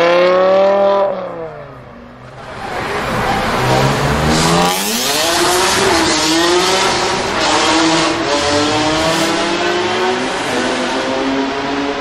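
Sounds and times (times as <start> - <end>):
sports car accelerating hard: 0.0 - 1.8, 2.4 - 12.0.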